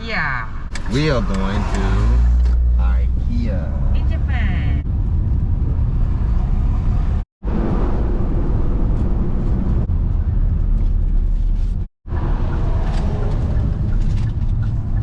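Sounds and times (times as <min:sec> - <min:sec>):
road and engine rumble in car: 0:00.1 - 0:15.0.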